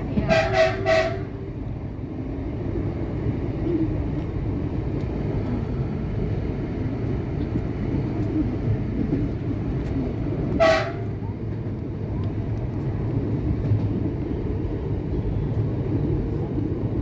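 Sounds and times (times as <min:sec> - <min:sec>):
electric train low rumble: 0:00.0 - 0:17.0.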